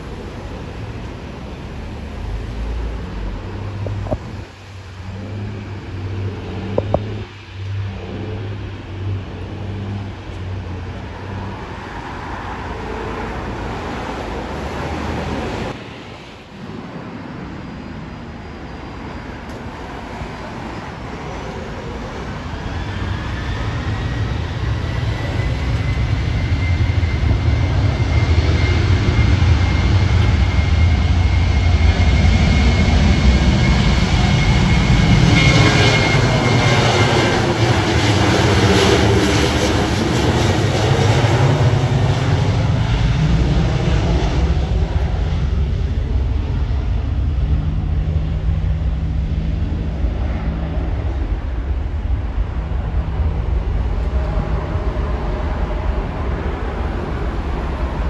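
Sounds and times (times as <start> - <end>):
airliner engines rumbling: 0.0 - 58.0
high engine whine: 0.0 - 58.0.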